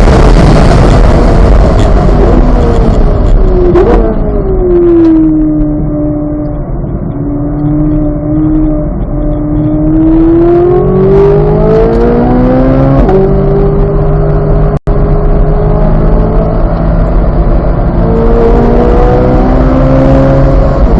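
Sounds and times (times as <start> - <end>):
sports car engine accelerating: 1.2 - 20.9.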